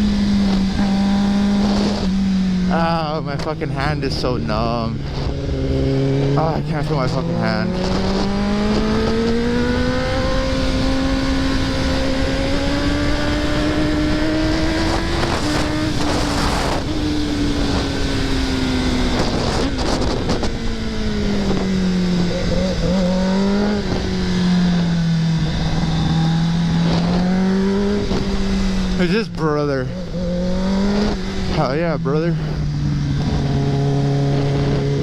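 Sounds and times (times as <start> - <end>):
wind rush: 0.0 - 29.0, 29.8 - 35.0
motorcycle engine at steady speed: 0.0 - 35.0.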